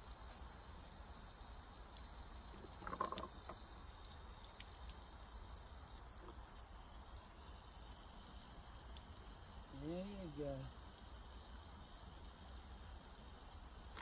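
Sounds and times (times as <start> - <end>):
hose water splashing on deck: 0.0 - 14.0.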